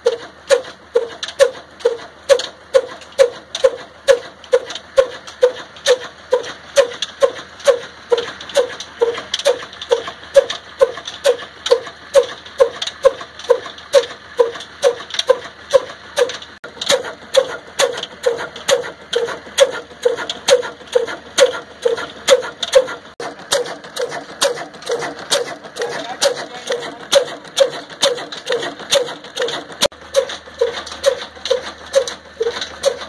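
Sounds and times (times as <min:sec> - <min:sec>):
diesel engine knocking rhythmically: 0:00.0 - 0:33.0
valve gear ticking: 0:00.0 - 0:33.0.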